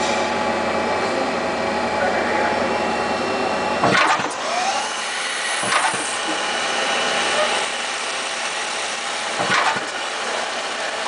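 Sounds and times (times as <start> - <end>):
lathe machine running: 0.0 - 11.0.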